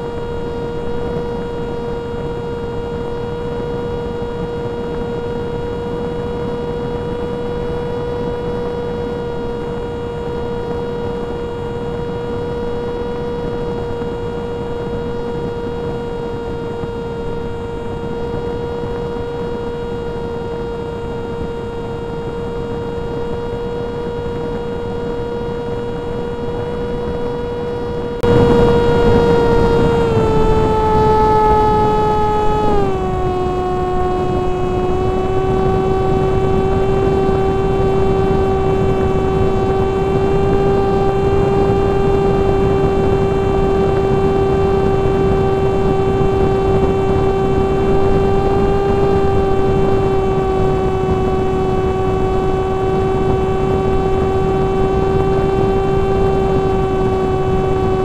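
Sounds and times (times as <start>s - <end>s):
electric motor propeller whine: 0.0s - 58.0s.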